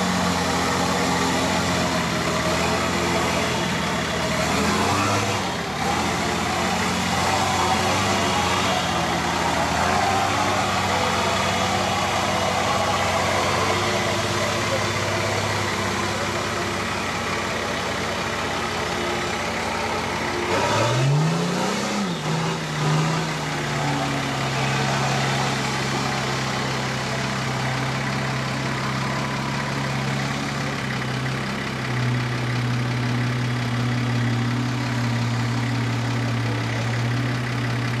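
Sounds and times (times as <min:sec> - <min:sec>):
diesel engine revving: 0:00.0 - 0:38.0.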